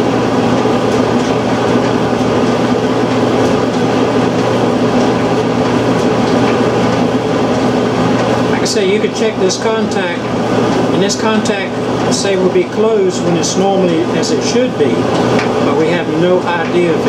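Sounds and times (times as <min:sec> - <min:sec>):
clothes dryer rumbling: 0:00.0 - 0:17.0.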